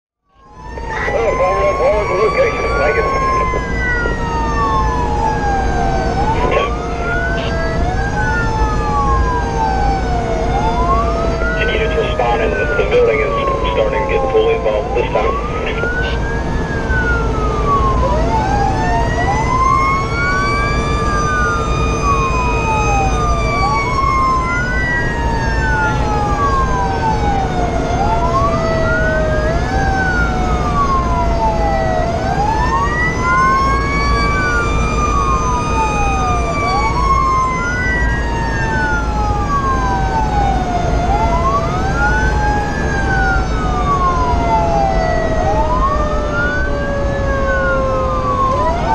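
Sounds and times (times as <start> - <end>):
engine and road noise: 0.3 - 48.9
fire engine sirens wailing: 0.3 - 48.9.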